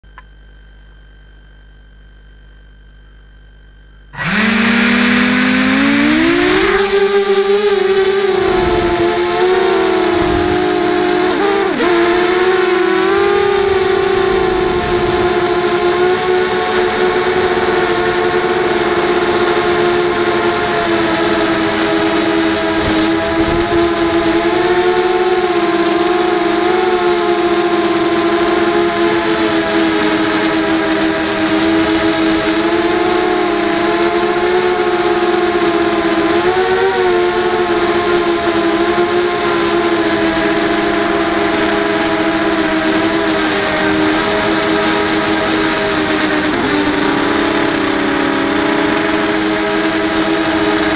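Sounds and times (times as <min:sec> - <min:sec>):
drone motors whining: 0:04.2 - 0:50.9.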